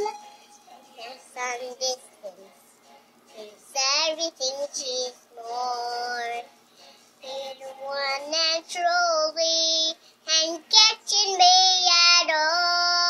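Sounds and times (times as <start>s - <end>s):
girl singing: 0.0s - 2.6s, 3.3s - 6.5s, 7.2s - 13.0s.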